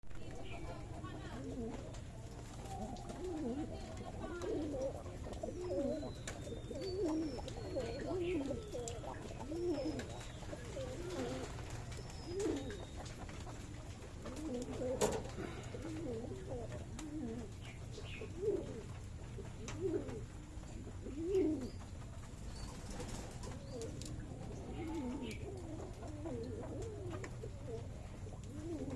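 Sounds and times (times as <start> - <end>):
pigeons cooing: 0.1 - 28.9.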